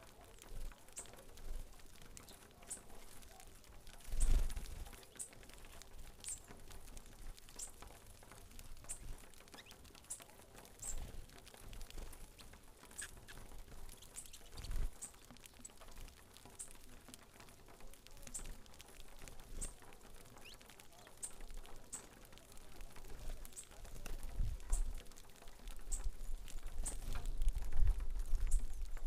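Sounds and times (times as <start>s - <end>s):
beaks pecking at seed: 0.0s - 29.0s.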